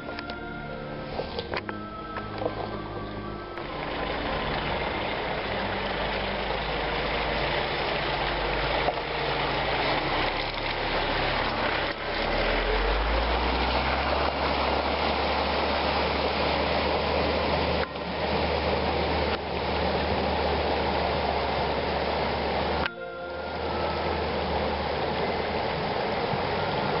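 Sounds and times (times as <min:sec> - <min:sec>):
vehicle engine running: 0:00.0 - 0:27.0
water rushing and splashing: 0:00.0 - 0:27.0
steady rushing noise: 0:01.0 - 0:27.0.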